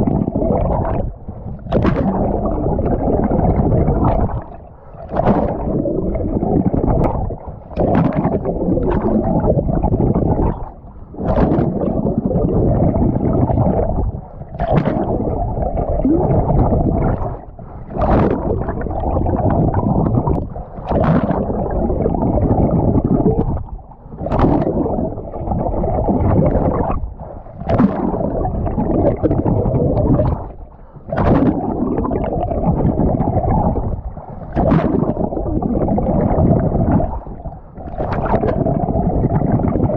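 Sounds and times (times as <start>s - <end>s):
muffled churning water: 0.0s - 39.9s.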